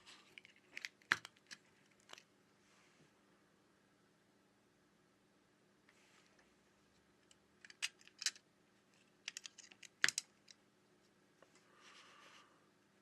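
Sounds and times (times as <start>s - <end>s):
soft hiss: 0.0s - 5.1s, 5.8s - 13.0s.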